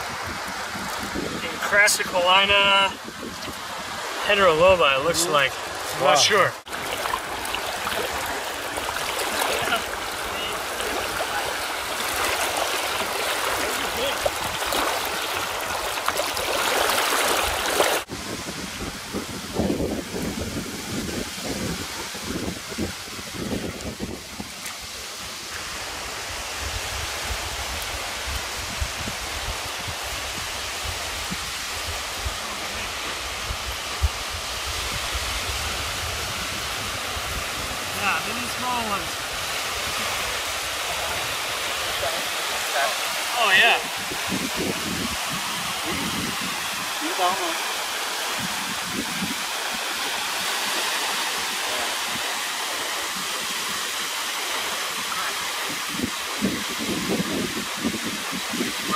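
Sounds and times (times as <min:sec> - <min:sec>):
surf washing on beach: 0:00.0 - 0:58.9.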